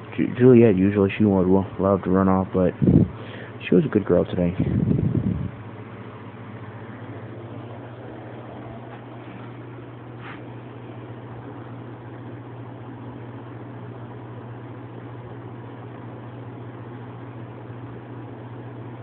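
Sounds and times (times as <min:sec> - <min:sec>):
steady low hum with hiss: 0:00.0 - 0:19.0.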